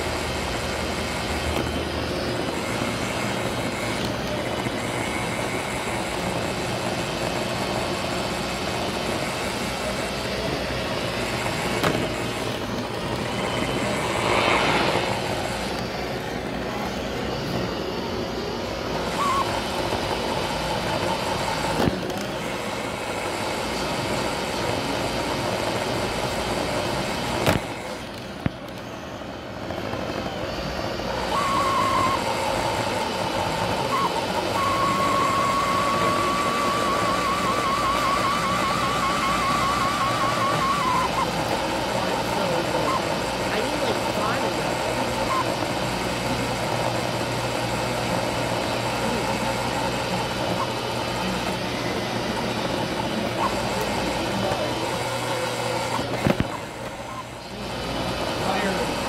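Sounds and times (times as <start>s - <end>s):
high-pitched whine: 0.0s - 59.0s
robot vacuum whirring: 0.0s - 59.0s.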